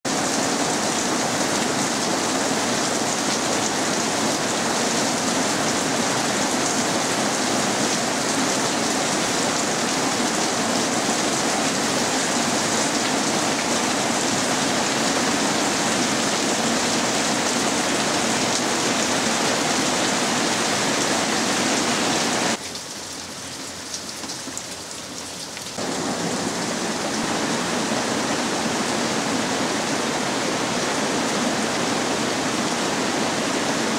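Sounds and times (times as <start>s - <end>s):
heavy rain on leaves: 0.0s - 33.9s.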